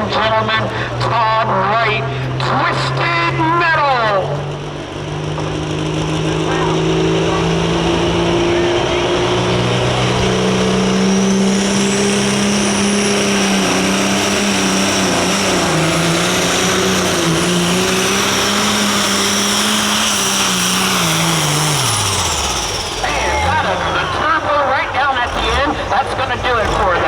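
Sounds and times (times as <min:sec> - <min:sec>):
tractor diesel engine at full throttle: 0:00.0 - 0:27.0.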